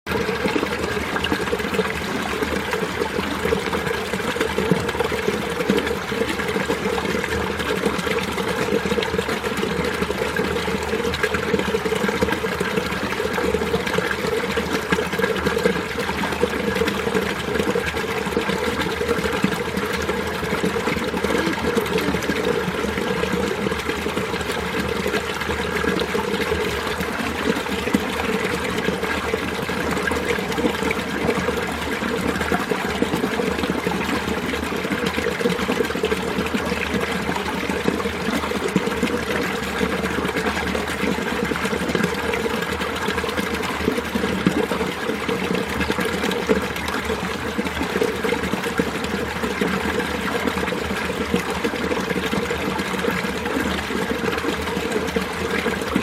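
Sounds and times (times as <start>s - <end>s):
stream flowing over rocks: 0.1s - 56.0s.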